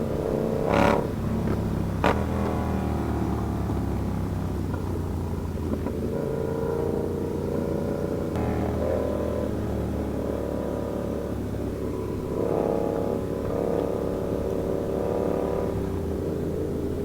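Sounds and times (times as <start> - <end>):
motorcycle engines running: 0.0 - 17.0.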